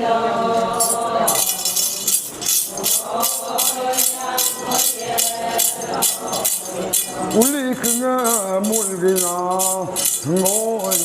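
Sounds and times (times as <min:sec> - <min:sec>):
metal jingle rattle shaken: 0:00.8 - 0:11.0.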